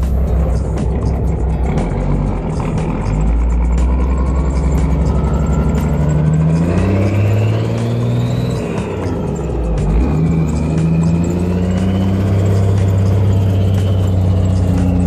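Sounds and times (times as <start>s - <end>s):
diesel engine accelerating: 0.0s - 15.0s.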